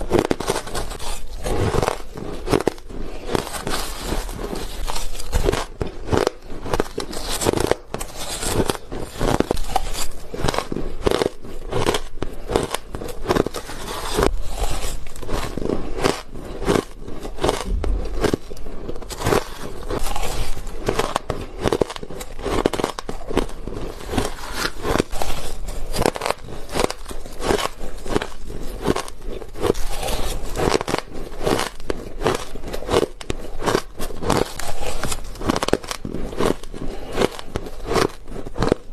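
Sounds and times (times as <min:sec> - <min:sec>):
ice crunching being chewed: 0:00.0 - 0:38.9.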